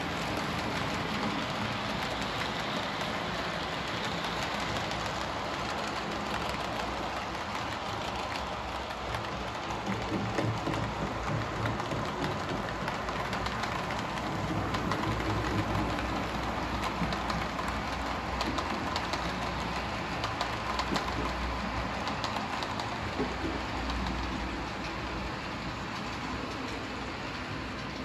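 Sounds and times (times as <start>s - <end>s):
model train wheels rolling on rails: 0.0s - 28.0s
wheels clicking over rail joints: 0.0s - 28.0s.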